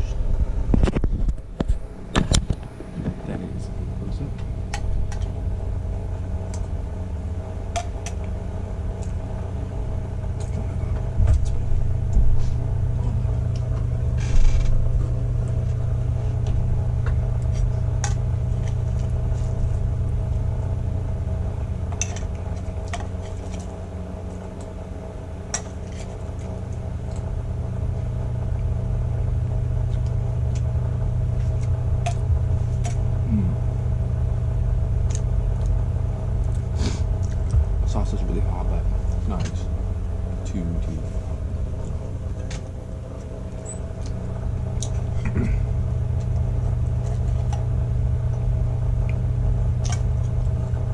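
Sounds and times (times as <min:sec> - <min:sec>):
low rumbling hum: 0:00.0 - 0:50.9.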